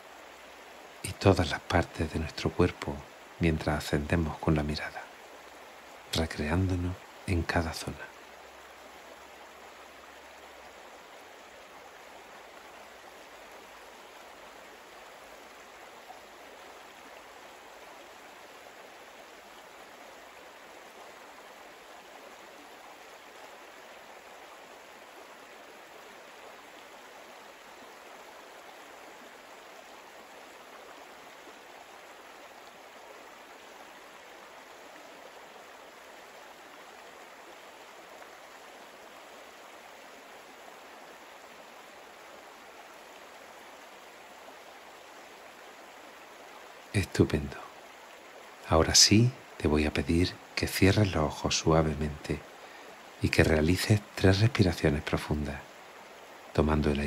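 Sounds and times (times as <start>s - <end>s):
faint steady rushing hiss: 0.0s - 57.0s.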